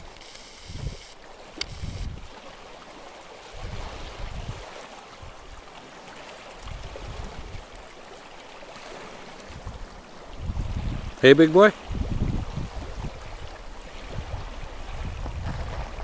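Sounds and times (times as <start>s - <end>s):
wind buffeting microphone: 0.0s - 2.4s, 3.5s - 5.8s, 6.4s - 8.0s, 8.9s - 16.0s
small waves lapping on pebbles: 0.0s - 16.0s.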